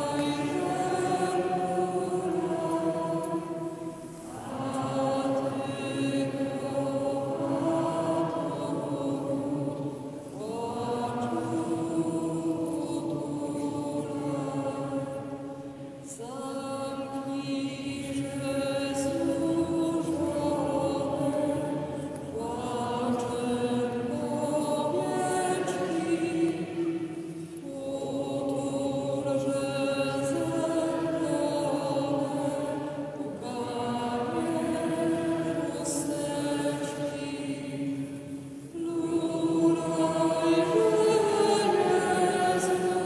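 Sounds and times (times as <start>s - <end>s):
voices singing a slow hymn: 0.0s - 43.0s.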